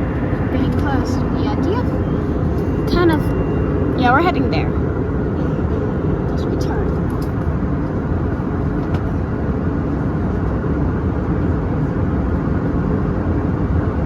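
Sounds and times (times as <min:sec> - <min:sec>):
aircraft cabin jet roar: 0:00.0 - 0:14.0.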